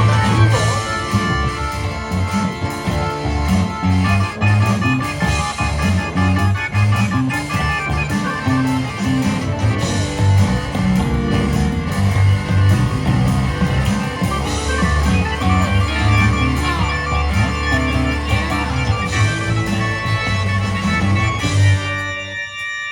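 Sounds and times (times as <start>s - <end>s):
rock band playing blues: 0.0s - 22.9s.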